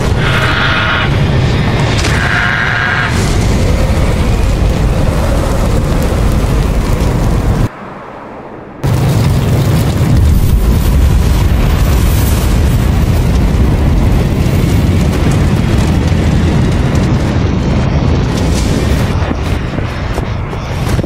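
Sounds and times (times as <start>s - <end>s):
explosion boom and rumble: 0.0s - 7.7s, 8.8s - 21.0s.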